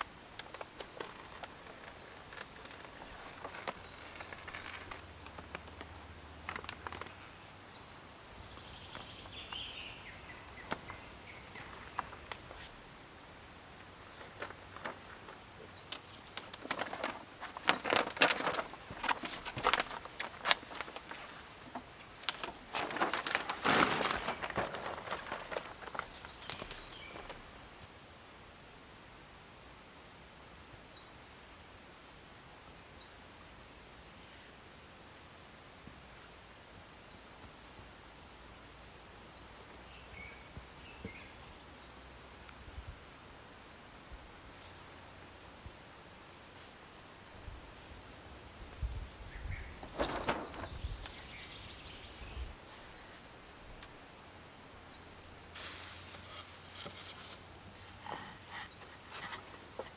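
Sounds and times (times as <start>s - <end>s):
birds chirping: 0.0s - 29.6s, 38.6s - 43.3s, 44.1s - 55.6s, 56.2s - 59.9s.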